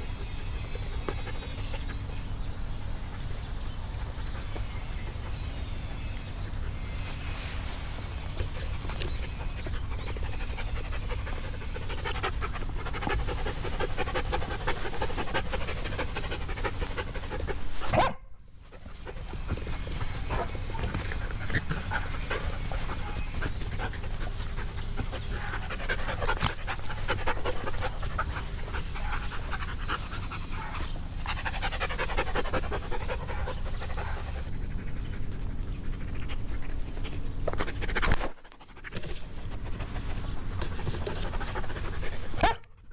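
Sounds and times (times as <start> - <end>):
dogs panting: 0.0 - 6.8, 8.4 - 17.9, 18.6 - 42.9.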